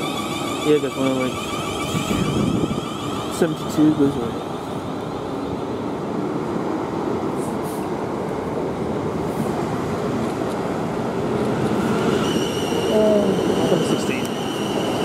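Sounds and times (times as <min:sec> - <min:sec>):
train passing on rails: 0:00.0 - 0:15.0.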